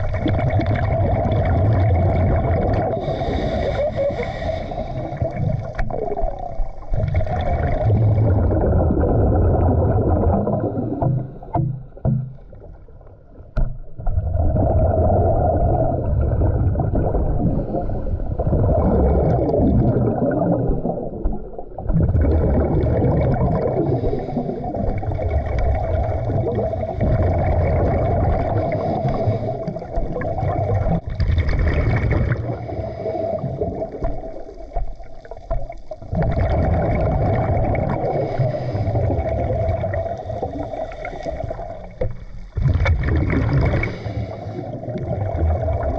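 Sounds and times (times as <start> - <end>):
underwater exhaled bubbles gurgling: 0.0 - 45.9.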